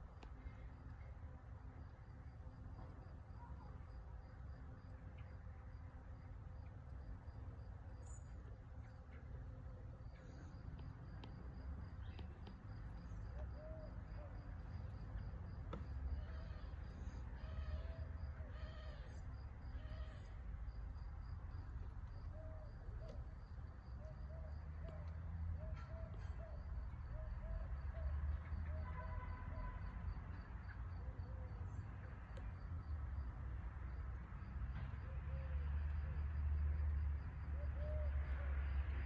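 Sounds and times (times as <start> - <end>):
constant low rumble: 0.0 - 33.7
insects chirring: 1.8 - 33.2.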